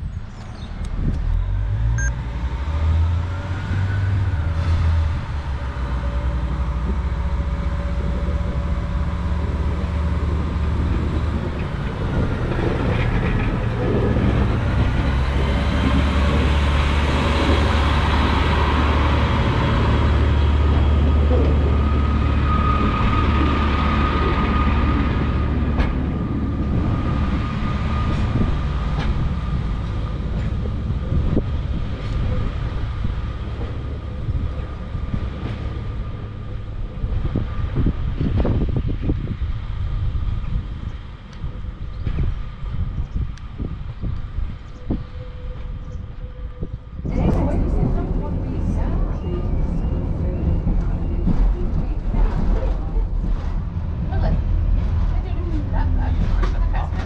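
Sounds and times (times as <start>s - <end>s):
diesel railbus engine rumble: 0.0s - 57.0s.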